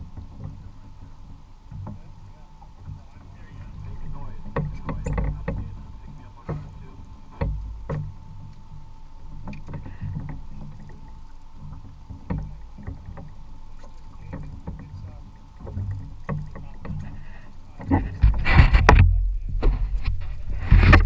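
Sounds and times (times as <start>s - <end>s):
faint high hum: 0.0s - 21.0s
knocks and clunks on boat: 0.0s - 21.0s
water rumbling against hull: 0.0s - 21.0s.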